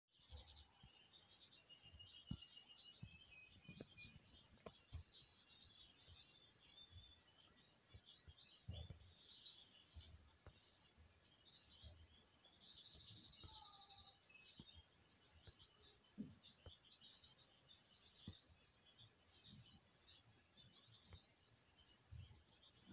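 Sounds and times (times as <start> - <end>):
small birds chirping: 0.1 - 22.9
bird trill: 0.2 - 22.9.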